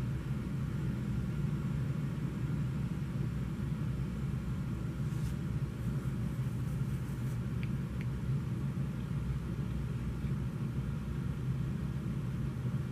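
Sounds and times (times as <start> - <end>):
low background rumble: 0.0 - 12.9.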